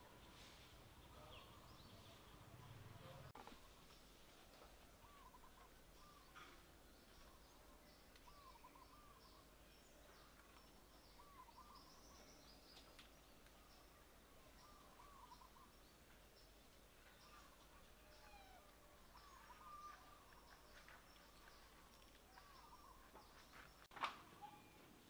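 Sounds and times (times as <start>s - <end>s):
low steady ambient hiss: 0.0s - 25.0s.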